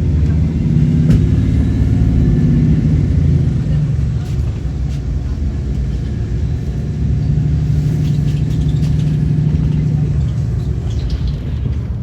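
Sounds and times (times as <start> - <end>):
bus engine low drone: 0.0 - 12.0.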